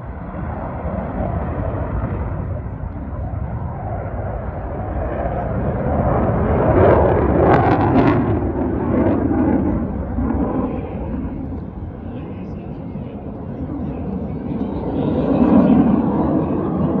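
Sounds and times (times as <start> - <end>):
fighter jet engine roaring: 0.0 - 17.0.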